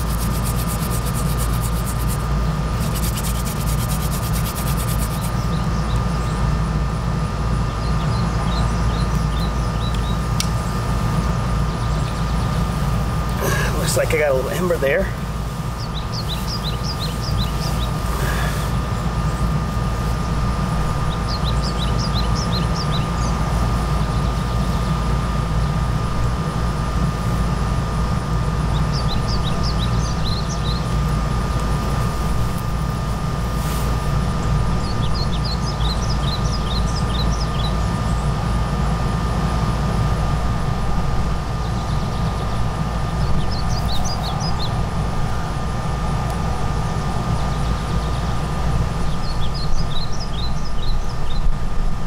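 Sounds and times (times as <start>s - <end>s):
thin high hum: 0.0s - 52.0s.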